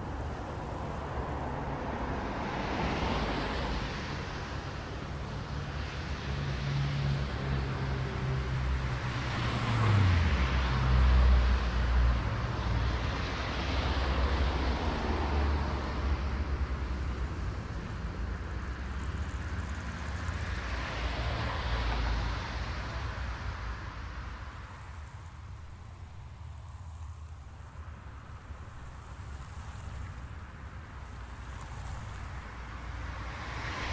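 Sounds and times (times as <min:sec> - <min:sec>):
cars passing on road: 0:00.0 - 0:33.9.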